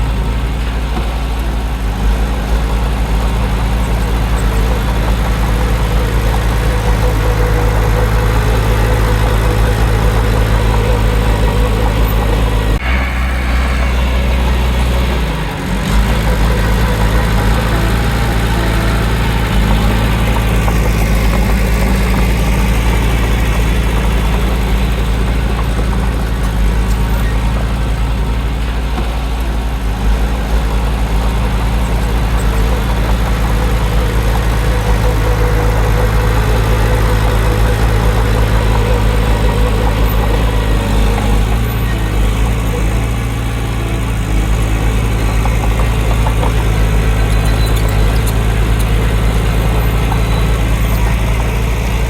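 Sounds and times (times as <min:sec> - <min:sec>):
heavy machine diesel engine running: 0:00.0 - 0:52.0.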